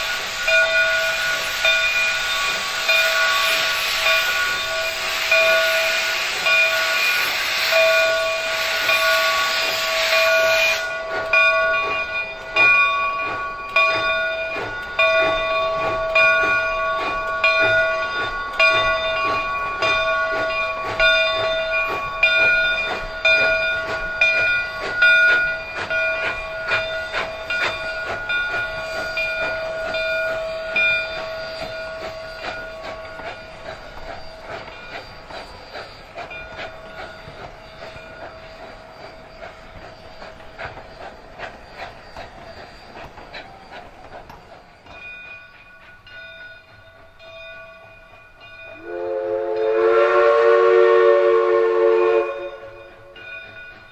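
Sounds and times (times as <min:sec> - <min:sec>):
steam hissing from cylinders: 0:00.0 - 0:53.9
steam locomotive exhaust chuffs: 0:00.0 - 0:53.9.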